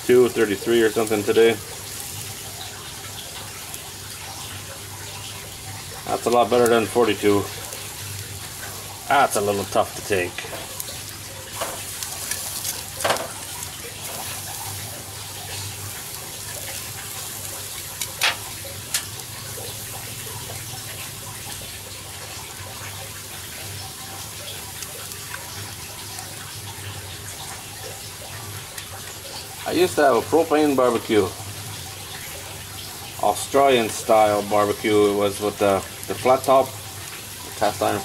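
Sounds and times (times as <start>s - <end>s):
meat sizzling on a grill: 0.0s - 38.0s.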